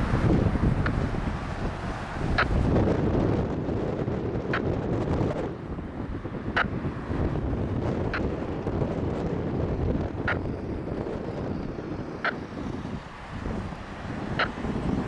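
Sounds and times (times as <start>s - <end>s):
airflow rushing: 0.0s - 15.0s
engine rumble: 0.0s - 15.0s.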